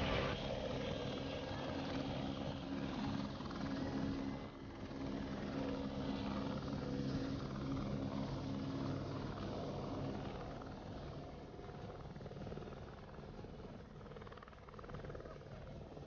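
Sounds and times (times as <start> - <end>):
helicopter rotor and turbine throb: 0.0 - 16.0.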